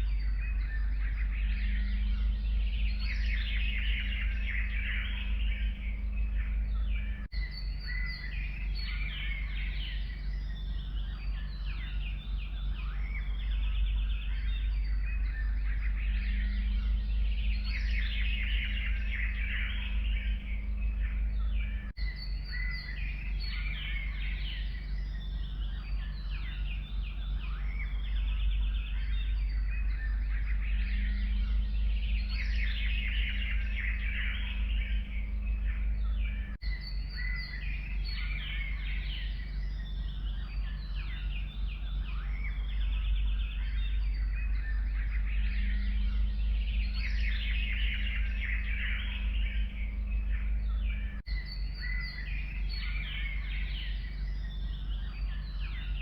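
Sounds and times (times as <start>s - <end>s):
songbirds chirping and singing: 0.0s - 56.0s
steady low rumble: 0.0s - 56.0s.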